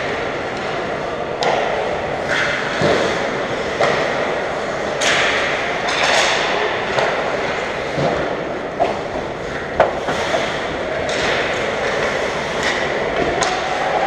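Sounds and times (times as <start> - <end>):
hockey sticks clacking on puck: 0.0 - 14.0.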